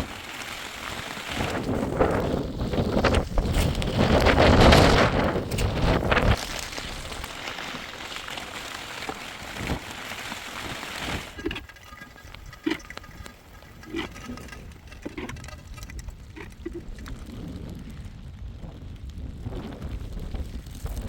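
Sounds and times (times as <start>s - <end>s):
wet patter with soft thumps: 0.0s - 18.2s.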